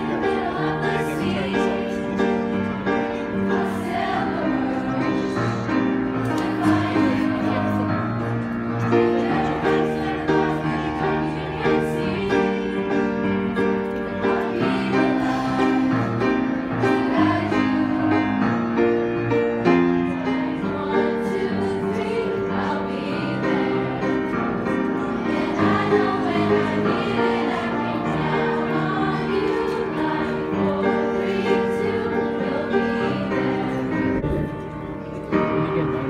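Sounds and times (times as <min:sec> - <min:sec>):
children's choir singing: 0:00.0 - 0:36.0
piano accompaniment: 0:00.0 - 0:36.0.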